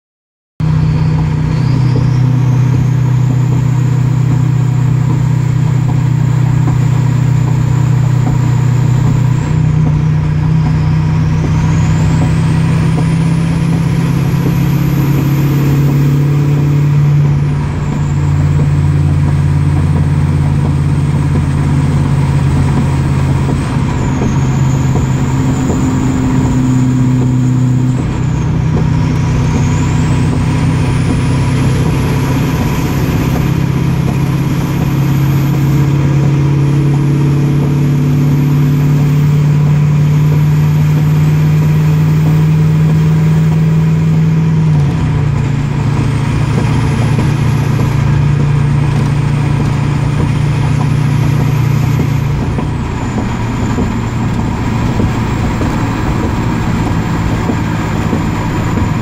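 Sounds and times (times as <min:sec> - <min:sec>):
diesel engine droning under load: 0:00.6 - 0:59.0
high turbo whistle: 0:00.6 - 0:59.0.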